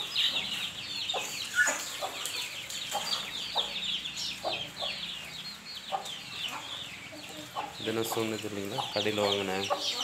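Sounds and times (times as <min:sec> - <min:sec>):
chickens clucking: 0:00.0 - 0:10.0
chicks peeping: 0:00.0 - 0:10.0.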